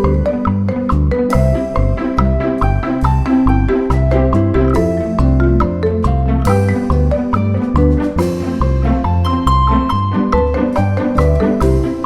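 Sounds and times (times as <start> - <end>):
steady bass beat: 0.0 - 12.0
upbeat mallet melody music: 0.0 - 12.0.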